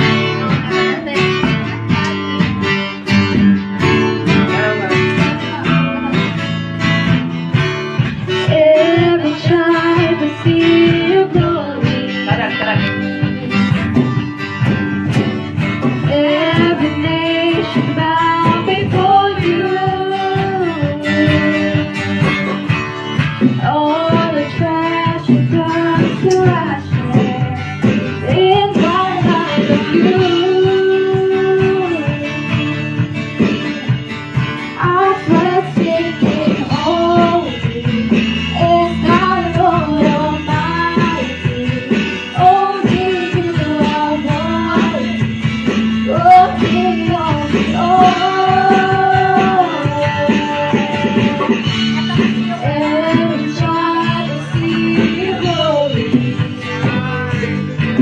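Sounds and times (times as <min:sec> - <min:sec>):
acoustic guitar strumming: 0:00.0 - 0:58.0
drums keeping beat: 0:00.0 - 0:58.0
women singing into microphones: 0:08.3 - 0:22.7, 0:23.4 - 0:34.0, 0:34.6 - 0:58.0.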